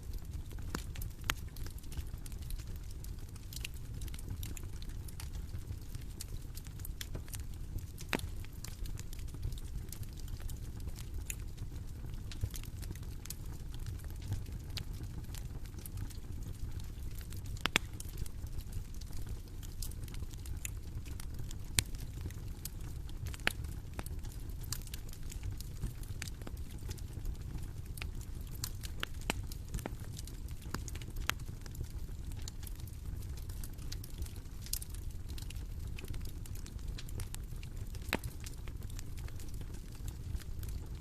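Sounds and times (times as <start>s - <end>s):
bonfire crackling and popping: 0.0s - 41.0s.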